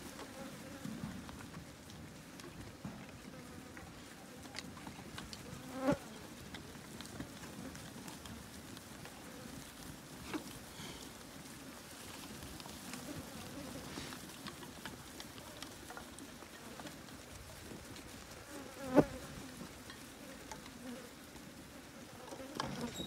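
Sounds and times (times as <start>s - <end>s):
faint patter of hooves: 0.0s - 23.0s.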